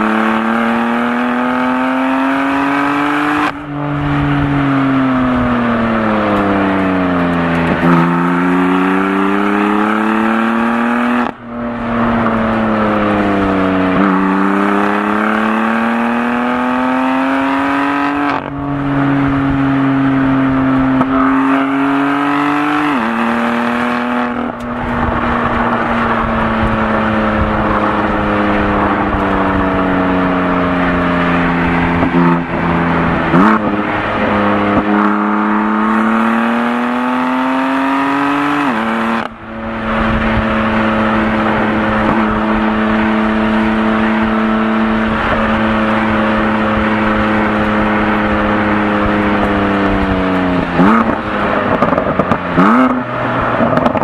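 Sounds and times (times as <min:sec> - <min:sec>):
car engine accelerating and slowing: 0:00.0 - 0:54.0.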